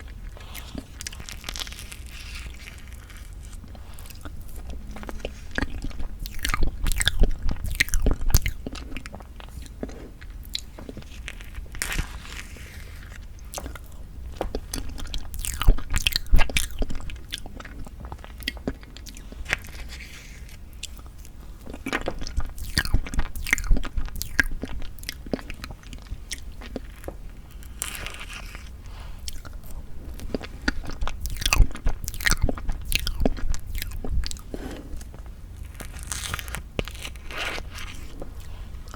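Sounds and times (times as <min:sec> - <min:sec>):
wet chewing and mouth clicks: 0:00.0 - 0:38.9.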